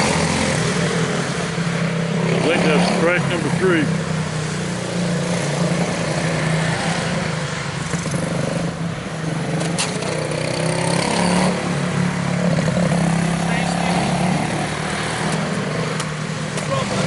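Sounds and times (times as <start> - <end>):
small race car engines droning: 0.0 - 17.0.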